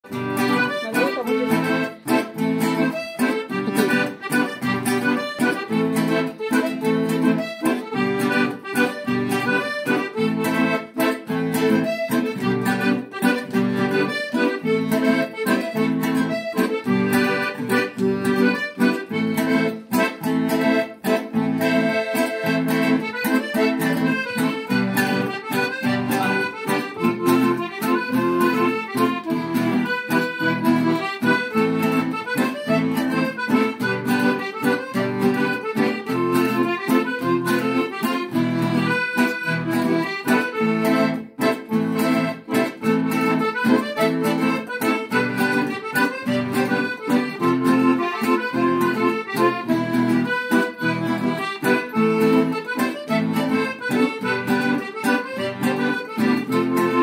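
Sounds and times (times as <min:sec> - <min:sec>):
accordion melody: 0:00.0 - 0:57.0
acoustic guitar rhythm: 0:00.0 - 0:57.0.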